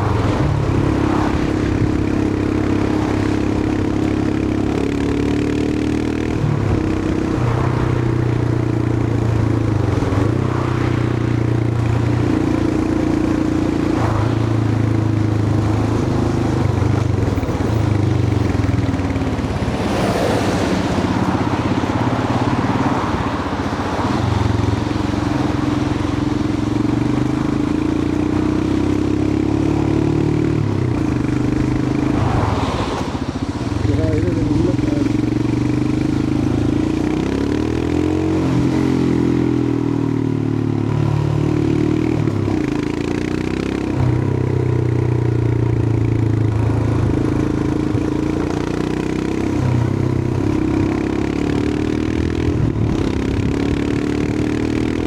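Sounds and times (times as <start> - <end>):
motorcycle engine running: 0.0 - 55.0
wind and tyre noise: 0.0 - 55.0.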